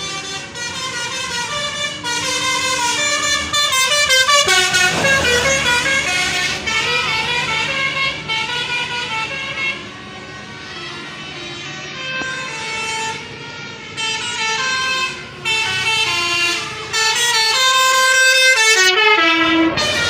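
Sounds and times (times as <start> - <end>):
multi-tone musical bus horn: 0.0 - 20.0.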